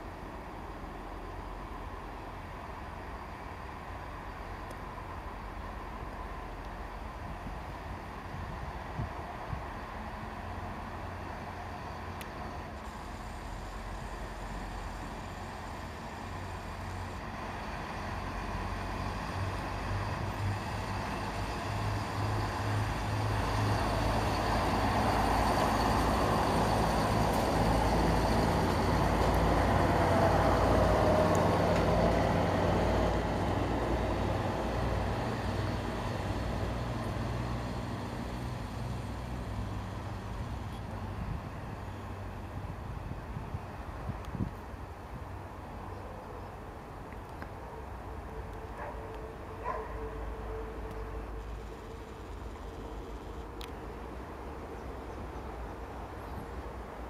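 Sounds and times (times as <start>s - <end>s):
diesel train passing: 0.0s - 57.0s.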